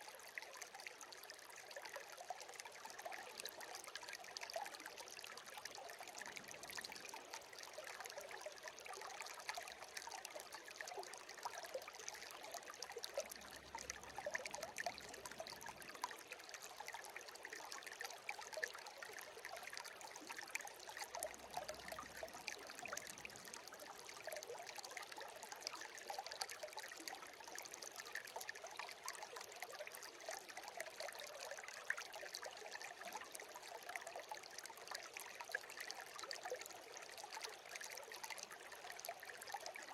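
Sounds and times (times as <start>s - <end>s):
stream trickling: 0.0s - 39.9s
water splashes and drips: 0.0s - 39.9s.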